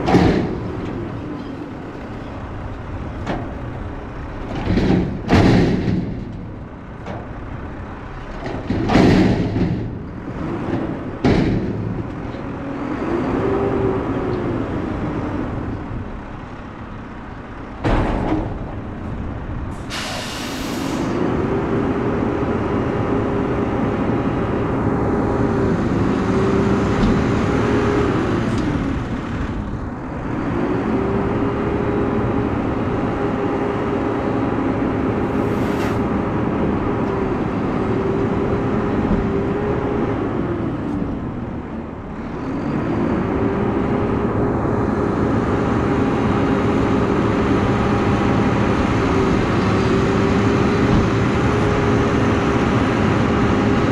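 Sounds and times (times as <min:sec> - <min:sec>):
garbage truck engine revving: 0:00.0 - 0:53.9.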